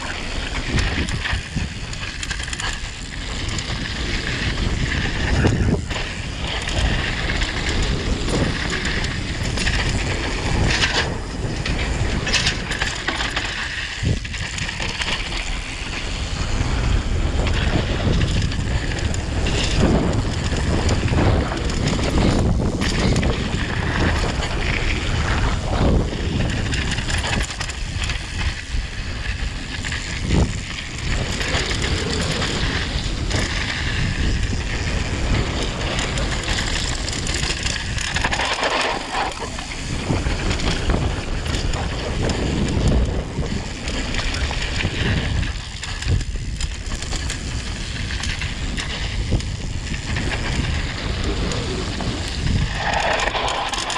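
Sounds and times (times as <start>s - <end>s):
bike rattling over bumps: 0.0s - 53.9s
tyres rolling over rocky dirt: 0.0s - 53.9s
wind buffeting microphone: 0.0s - 53.9s.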